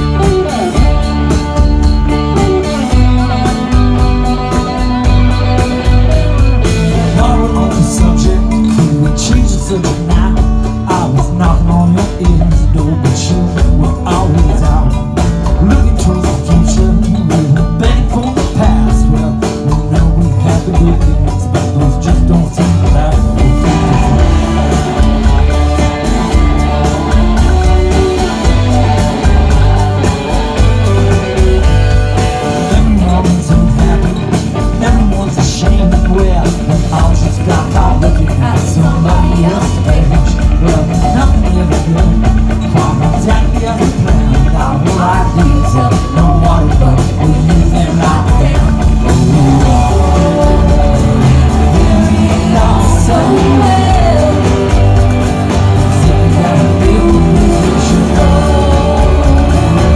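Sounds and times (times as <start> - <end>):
live rock band: 0.0 - 59.9.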